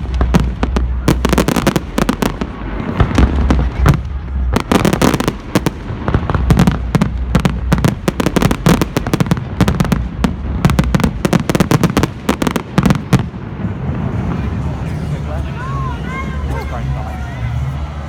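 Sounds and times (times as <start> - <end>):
fireworks crackling and banging: 0.0 - 16.8.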